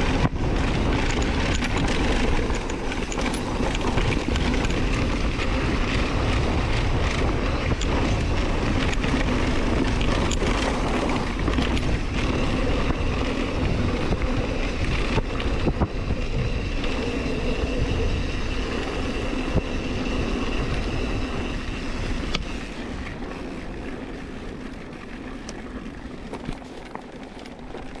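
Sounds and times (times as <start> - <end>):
bike frame rattle and clicks: 0.0 - 28.0
bike tyre rumble: 0.0 - 28.0
wind on microphone: 0.0 - 28.0.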